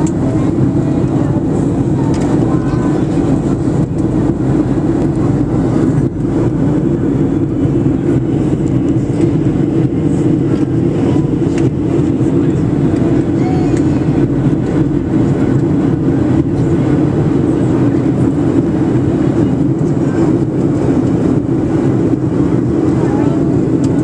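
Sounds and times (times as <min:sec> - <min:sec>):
aircraft cabin rumble: 0:00.0 - 0:24.0
faint voices: 0:00.0 - 0:24.0.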